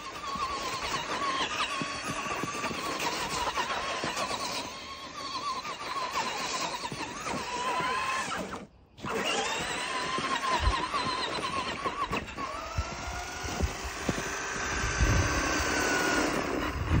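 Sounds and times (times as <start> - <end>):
toy truck motor whining: 0.0 - 17.0
wheels churning through snow: 0.0 - 17.0.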